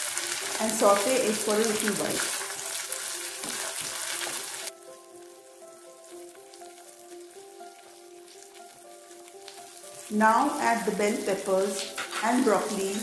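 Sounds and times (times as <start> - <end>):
onions sizzling in hot oil: 0.0 - 13.0
soft background music: 0.0 - 13.0.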